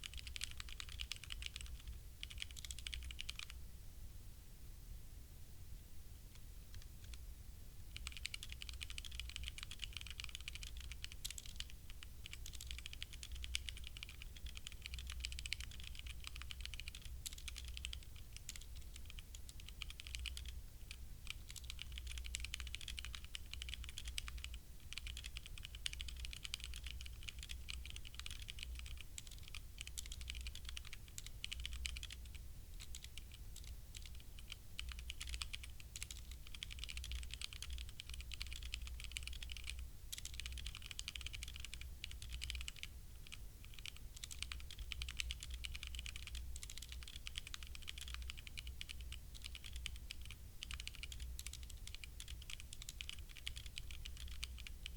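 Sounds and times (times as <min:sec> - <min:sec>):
fast mechanical keyboard typing: 0:00.0 - 0:03.6, 0:07.9 - 0:54.9.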